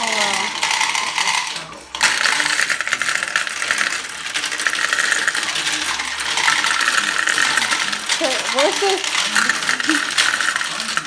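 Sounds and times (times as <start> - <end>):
marbles clattering through plastic run: 0.0 - 11.0.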